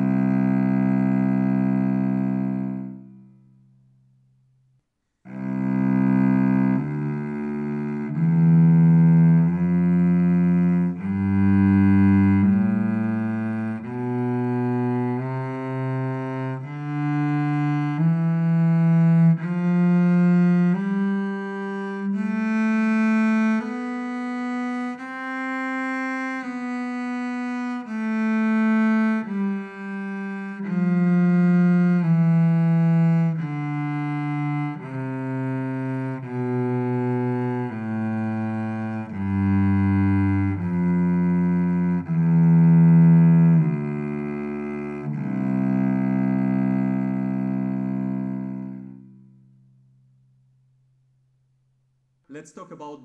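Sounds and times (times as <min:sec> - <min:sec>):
cello playing a scale: 0:00.0 - 0:03.5, 0:05.3 - 0:49.6.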